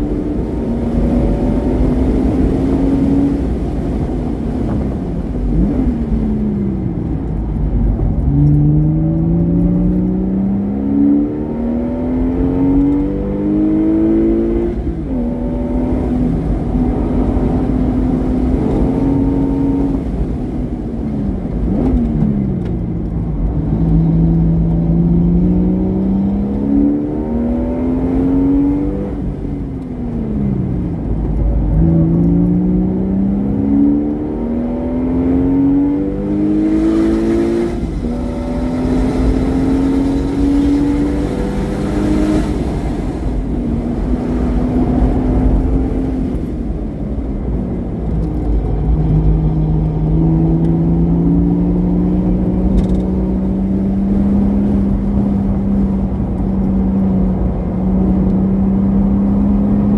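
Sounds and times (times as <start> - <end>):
sports car engine revving: 5.4 - 20.6, 21.5 - 59.9.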